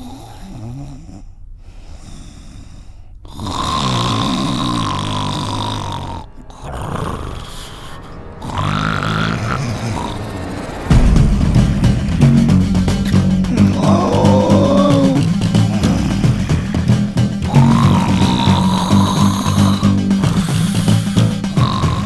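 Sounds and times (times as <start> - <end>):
person snoring loudly: 0.0 - 1.3, 3.2 - 10.9, 13.0 - 22.0.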